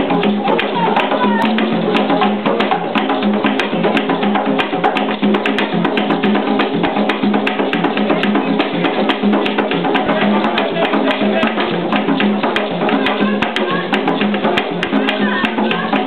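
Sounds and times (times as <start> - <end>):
hand drums playing fast rhythm: 0.0 - 16.0.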